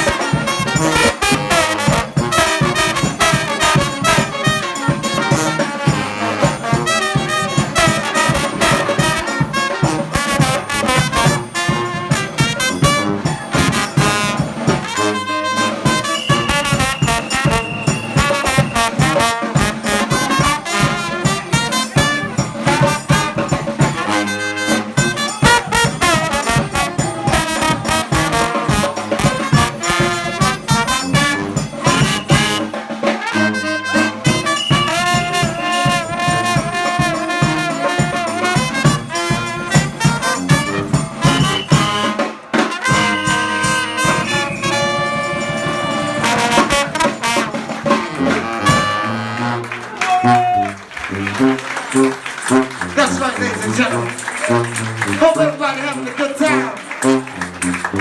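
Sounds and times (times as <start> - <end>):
brass band playing: 0.0 - 58.0
steady drum beat: 0.0 - 58.0
trombone: 0.0 - 58.0
trumpet: 0.0 - 58.0.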